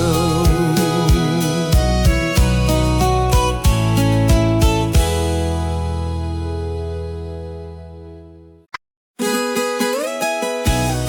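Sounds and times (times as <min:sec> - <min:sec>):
plucked guitar notes sliding: 0:00.0 - 0:08.2, 0:09.2 - 0:11.0.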